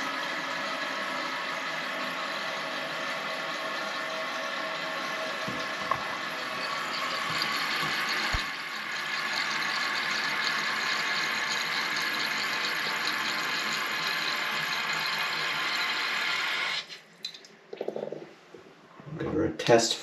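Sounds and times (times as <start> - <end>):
water hissing into toilet tank: 0.0 - 17.1.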